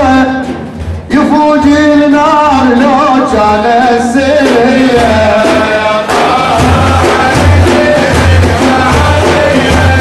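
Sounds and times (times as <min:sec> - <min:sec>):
men singing devotional song: 0:00.0 - 0:00.5, 0:01.1 - 0:10.0
drum beat: 0:00.0 - 0:10.0.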